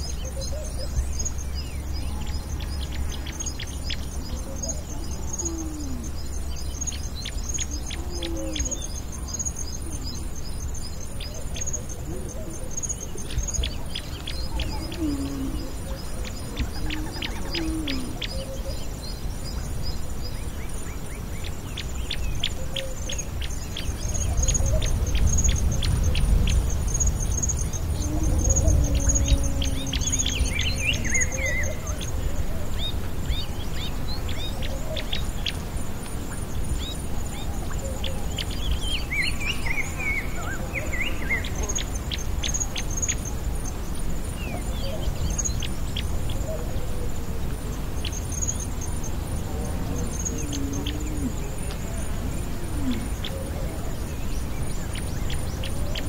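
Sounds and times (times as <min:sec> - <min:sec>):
small birds chirping and singing: 0:00.0 - 0:56.0.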